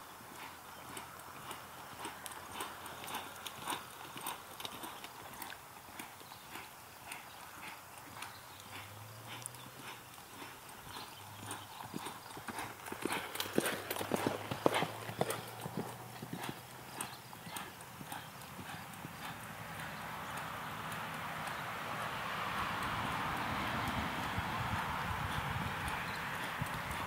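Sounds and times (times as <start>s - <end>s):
horse hoofbeats on dirt: 0.0s - 27.0s.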